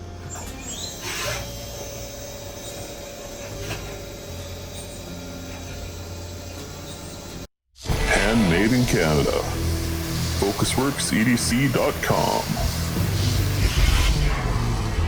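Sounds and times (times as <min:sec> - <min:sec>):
machine hum: 0:01.5 - 0:15.0.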